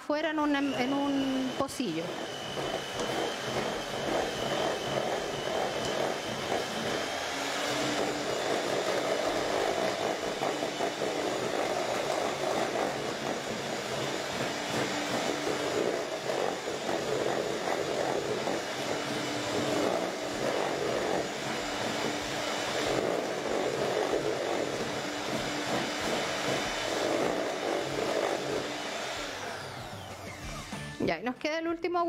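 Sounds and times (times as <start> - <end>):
electric hand mixer running: 0.0 - 31.2.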